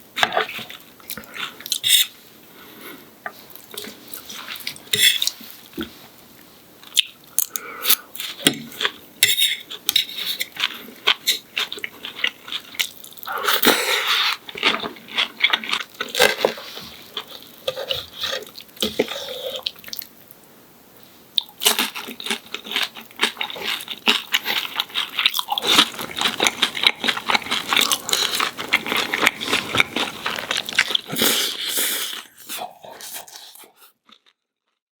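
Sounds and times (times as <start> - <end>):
crunchy chewing of fried food: 0.2 - 20.2, 21.4 - 34.8.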